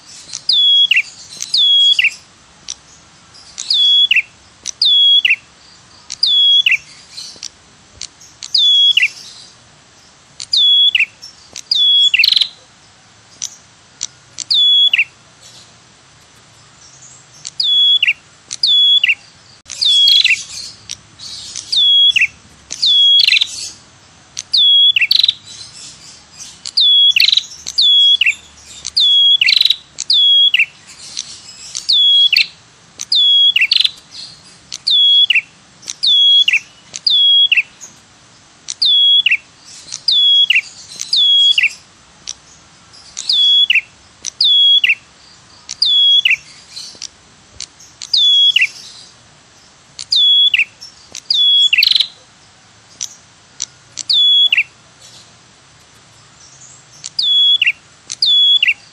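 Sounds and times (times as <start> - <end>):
bird lure call: 0.0 - 9.5, 10.4 - 12.7, 13.4 - 15.2, 17.3 - 38.0, 38.7 - 42.4, 43.0 - 49.2, 50.0 - 52.3, 53.0 - 54.8, 56.9 - 58.9.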